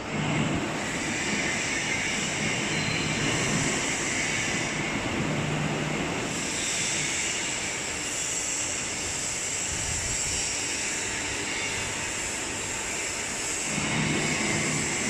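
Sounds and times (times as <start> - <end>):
workshop machinery hissing: 0.0 - 15.0.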